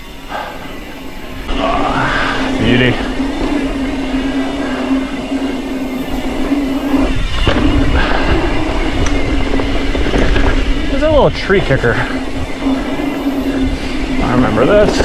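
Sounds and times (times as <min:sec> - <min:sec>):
bicycle freehub buzzing: 0:00.0 - 0:15.0
bike tyres rumbling on dirt trail: 0:00.0 - 0:15.0.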